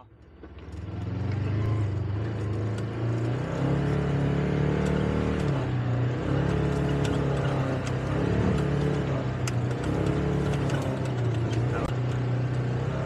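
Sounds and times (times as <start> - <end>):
buggy engine running: 0.0 - 13.0.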